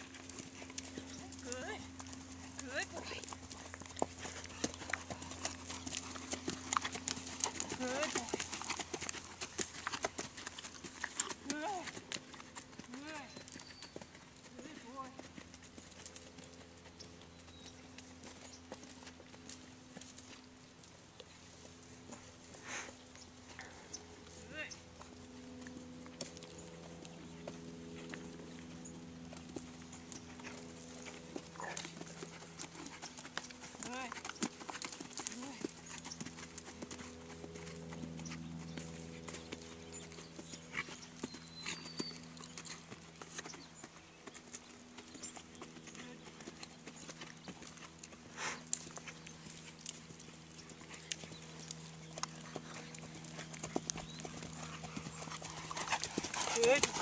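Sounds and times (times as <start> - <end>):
horse hoofbeats on sand: 0.0 - 20.5, 24.7 - 57.0
steady low hum: 0.0 - 57.0.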